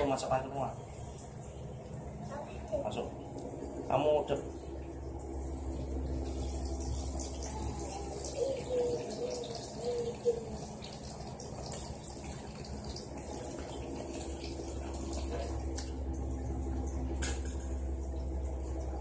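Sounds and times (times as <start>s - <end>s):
water trickling into a bowl: 0.0s - 19.0s.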